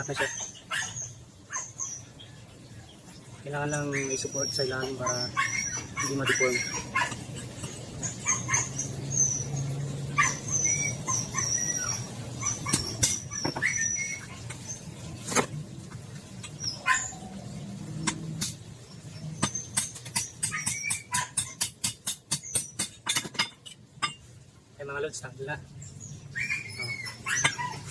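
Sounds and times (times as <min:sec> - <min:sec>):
animal sounds: 0:00.0 - 0:15.6, 0:16.2 - 0:21.7, 0:25.4 - 0:27.9.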